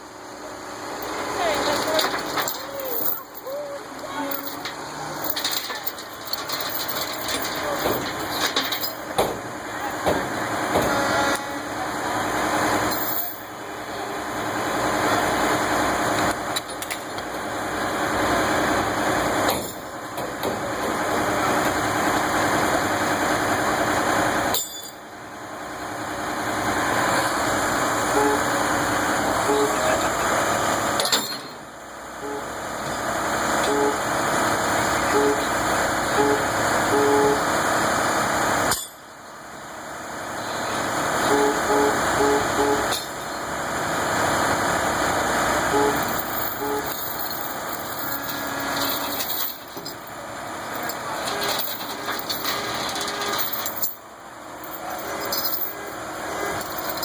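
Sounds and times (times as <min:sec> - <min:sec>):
truck engines running: 0:00.0 - 0:57.0.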